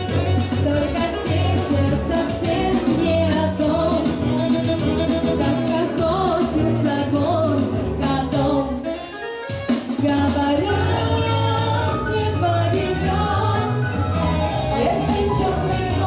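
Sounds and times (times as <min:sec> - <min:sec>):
woman singing into microphone: 0:00.0 - 0:09.0, 0:10.0 - 0:16.0
backing music with bass line: 0:00.0 - 0:16.0.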